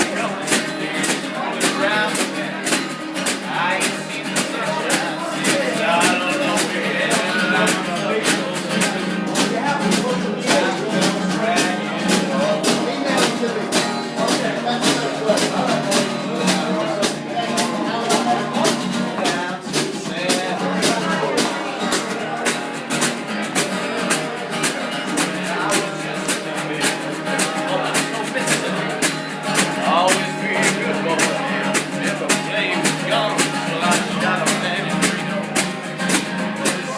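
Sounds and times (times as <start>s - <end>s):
acoustic guitar strumming: 0.0s - 36.9s.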